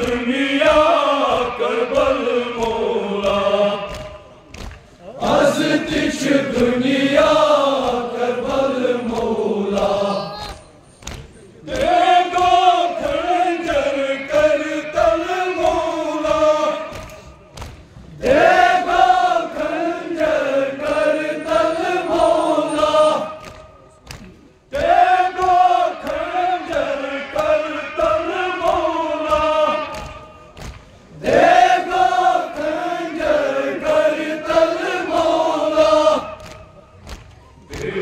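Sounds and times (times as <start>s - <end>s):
men chanting a lament in unison: 0.0s - 10.5s, 11.6s - 17.5s, 18.1s - 23.9s, 24.7s - 36.7s, 37.7s - 38.0s
rhythmic chest-beating: 0.0s - 38.0s.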